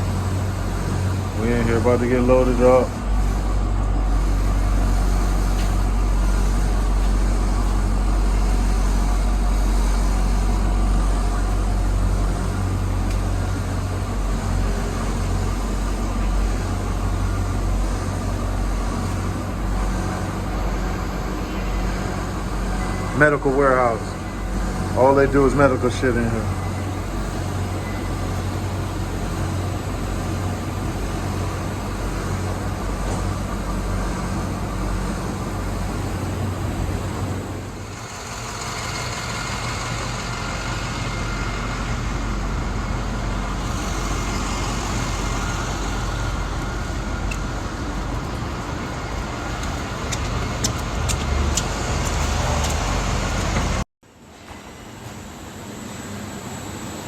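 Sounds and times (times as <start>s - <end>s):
vehicle engine humming: 0.0s - 53.9s
faint steady whine: 0.0s - 57.0s.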